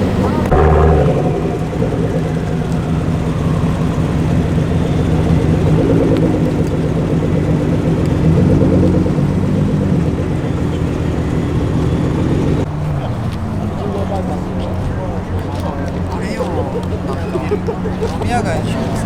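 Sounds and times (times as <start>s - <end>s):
car engine exhaust rumble: 0.0s - 19.0s.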